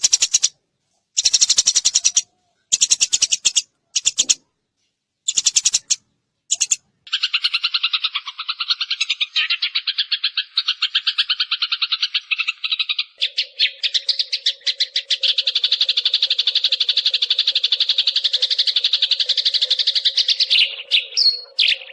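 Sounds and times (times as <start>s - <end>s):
sparrow chirping rapidly: 0.0s - 0.6s, 1.2s - 4.5s, 5.2s - 21.9s.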